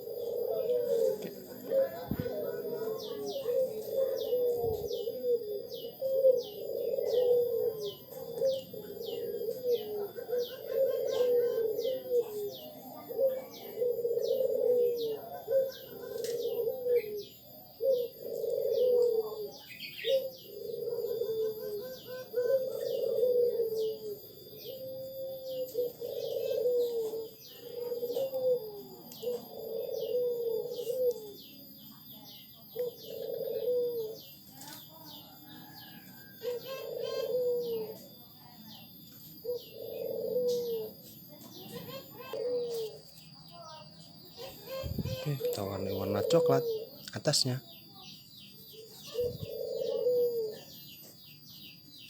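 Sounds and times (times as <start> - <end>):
dove cooing: 0.0 - 52.0
small bird chirping: 0.0 - 52.0.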